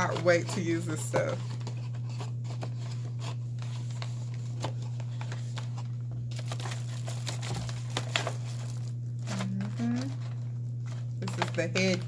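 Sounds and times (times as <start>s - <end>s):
low electrical hum: 0.0s - 12.0s
packaging crinkling and rustling: 0.0s - 12.0s.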